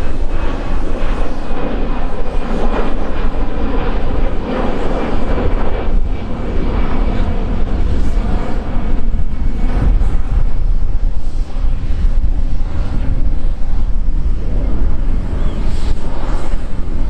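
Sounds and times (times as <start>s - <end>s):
faint steady whine: 0.0s - 17.0s
jet engines rumbling: 0.0s - 17.0s
wind buffeting microphone: 0.0s - 17.0s.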